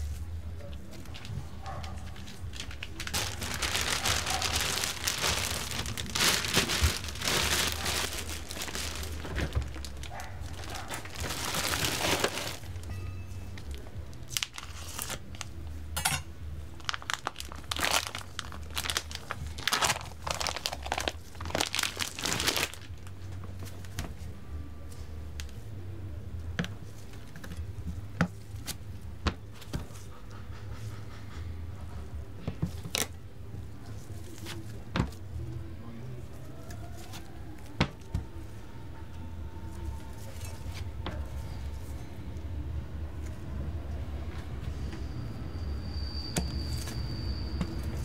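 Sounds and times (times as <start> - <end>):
crinkling handling noise: 0.0 - 25.7, 26.6 - 38.8, 39.5 - 42.2.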